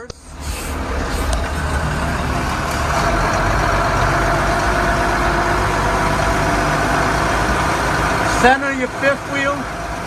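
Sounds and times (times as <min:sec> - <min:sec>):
diesel engine running: 0:00.0 - 0:10.0
steady whine: 0:00.0 - 0:10.0.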